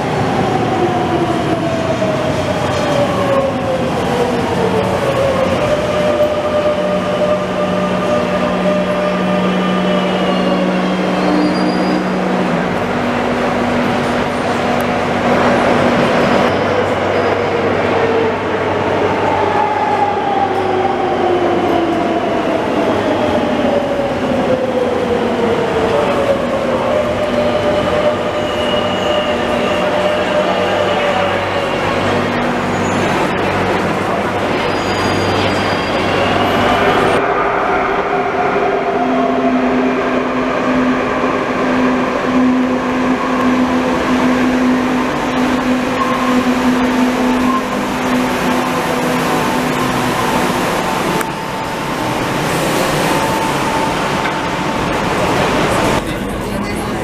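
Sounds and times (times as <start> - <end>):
falling train whine: 0.0 - 57.0.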